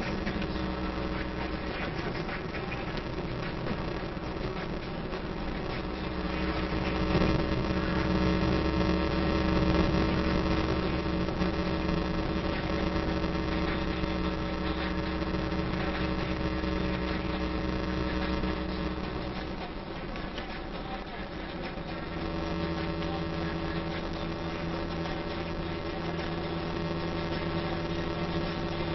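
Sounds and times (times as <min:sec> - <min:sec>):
car engine drone: 0:00.0 - 0:28.9.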